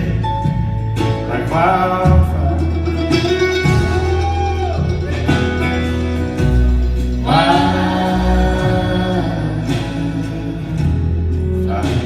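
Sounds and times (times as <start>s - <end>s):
acoustic folk band playing: 0.0s - 12.0s
steady low bass: 0.0s - 12.0s.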